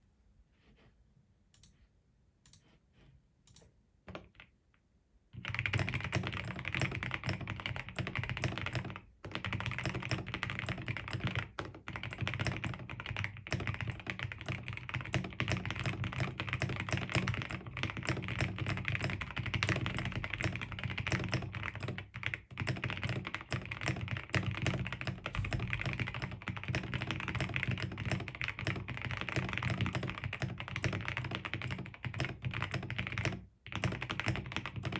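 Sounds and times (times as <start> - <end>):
mechanical keyboard typing: 5.4 - 34.9.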